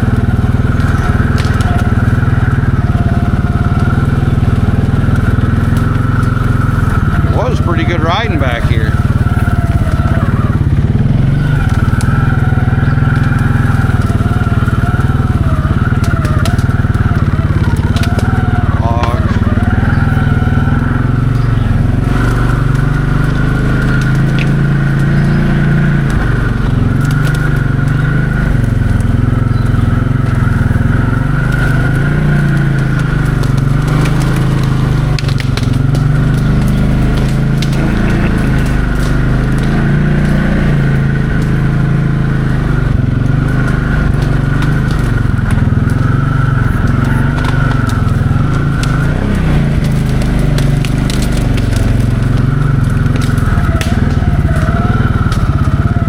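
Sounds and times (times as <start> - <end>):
atv engine running: 0.0 - 56.0
brush crackling under tyres: 0.0 - 56.0.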